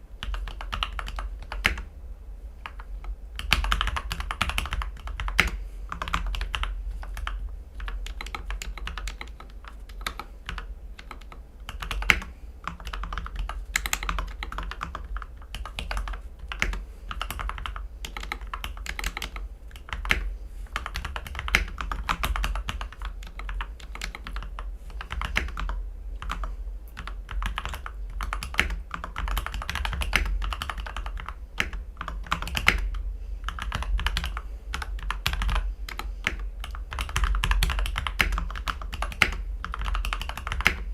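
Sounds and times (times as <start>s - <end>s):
mechanical keyboard typing: 0.2s - 1.9s, 2.6s - 40.9s.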